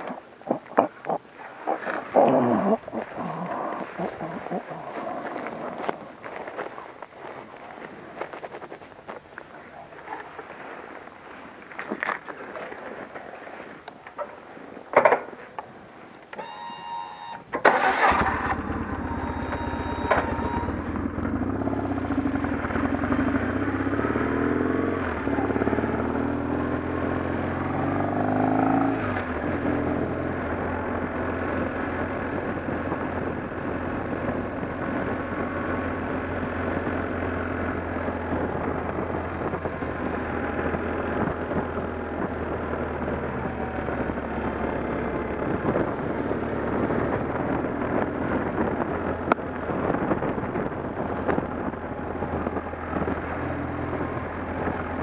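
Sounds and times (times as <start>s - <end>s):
vehicle engine starting and running: 0.0s - 9.2s, 16.3s - 55.0s.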